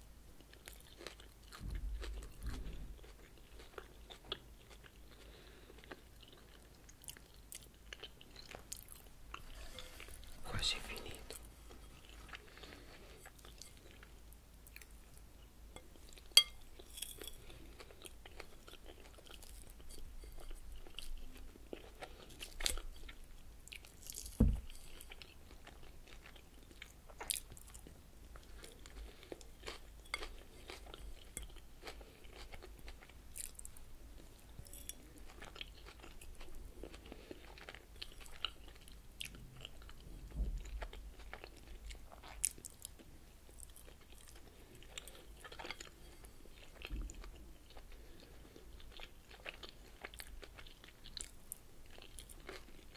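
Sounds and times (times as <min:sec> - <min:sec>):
chewing crunchy salad: 0:00.4 - 0:52.9.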